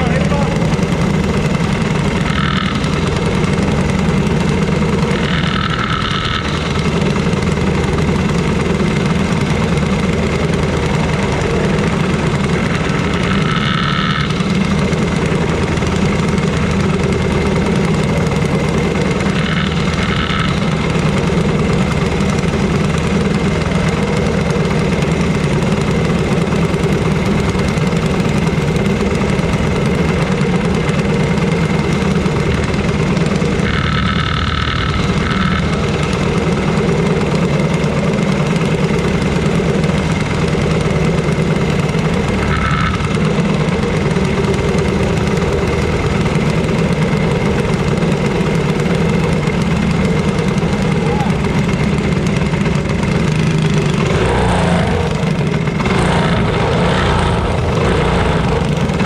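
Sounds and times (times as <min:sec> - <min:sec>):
kart engines idling: 0:00.0 - 0:59.0.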